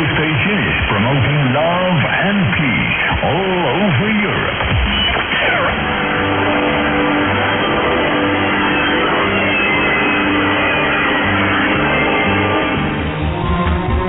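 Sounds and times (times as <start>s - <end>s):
music on am radio: 0.0s - 14.0s.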